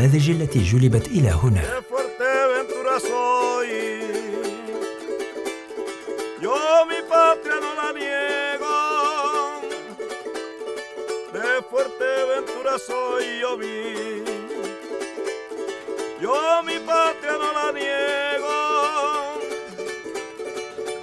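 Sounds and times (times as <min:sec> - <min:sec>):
man singing with vibrato: 0:00.0 - 0:10.1, 0:11.2 - 0:15.1, 0:15.8 - 0:19.9
small strummed string instrument: 0:00.0 - 0:21.0.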